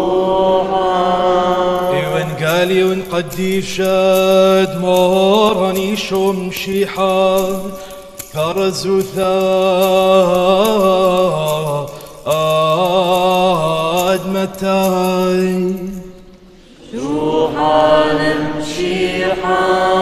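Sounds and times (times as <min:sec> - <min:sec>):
man chanting: 0:00.0 - 0:16.1.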